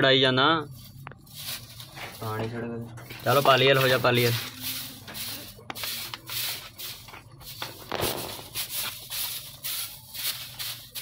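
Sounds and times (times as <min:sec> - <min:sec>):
broom sweeping dirt floor: 0:00.6 - 0:11.0.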